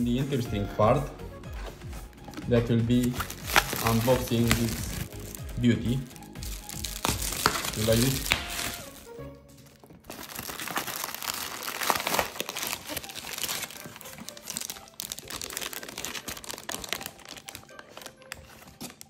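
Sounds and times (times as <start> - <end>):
plastic packaging crinkling: 1.6 - 19.0.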